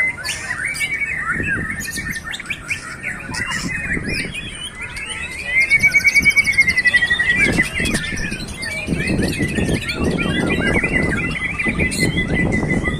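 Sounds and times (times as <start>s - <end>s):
songbirds singing: 0.0s - 12.9s.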